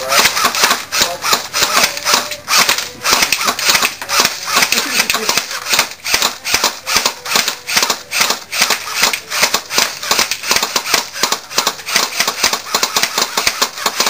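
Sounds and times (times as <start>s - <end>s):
airsoft guns firing: 0.0s - 14.0s.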